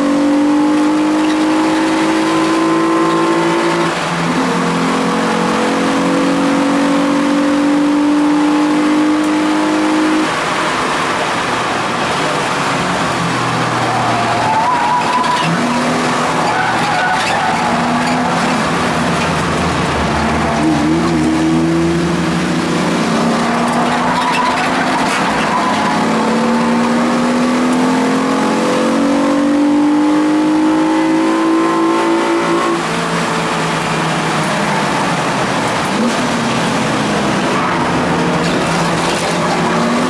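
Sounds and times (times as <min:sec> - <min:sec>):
race car engine revving: 0:00.0 - 0:40.0
wind and road noise: 0:00.0 - 0:40.0.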